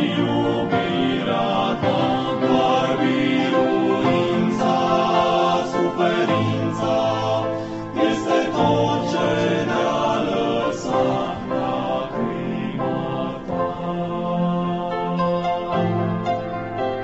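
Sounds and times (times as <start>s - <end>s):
male vocal group singing: 0.0s - 16.2s.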